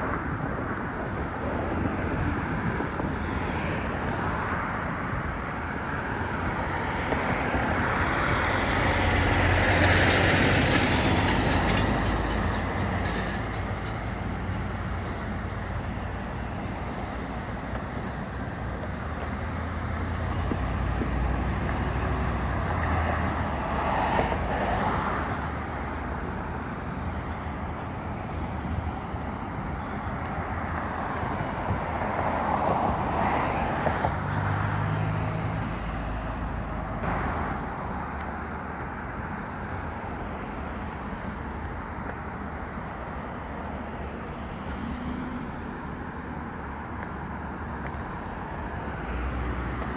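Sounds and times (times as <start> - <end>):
cars passing: 0.0 - 49.9.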